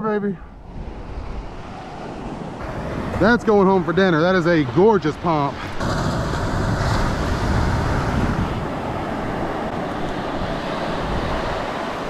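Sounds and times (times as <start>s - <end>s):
surf on beach: 0.0s - 12.0s
wind rumble on microphone: 0.5s - 4.9s, 5.5s - 12.0s.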